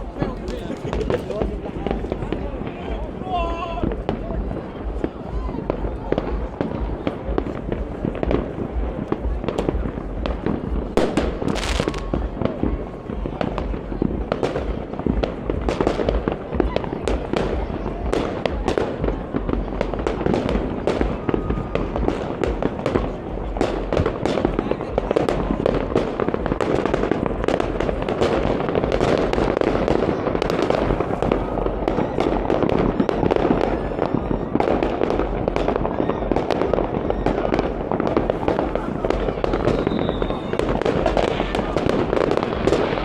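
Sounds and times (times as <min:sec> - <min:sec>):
distant fireworks blasts: 0:00.0 - 0:43.0
fireworks sharp bangs: 0:00.0 - 0:43.0.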